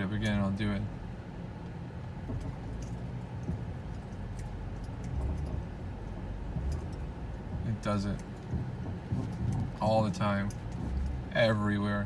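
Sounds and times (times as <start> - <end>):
car engine hum: 0.0 - 12.0
suspension creaks and ticks: 1.6 - 12.0.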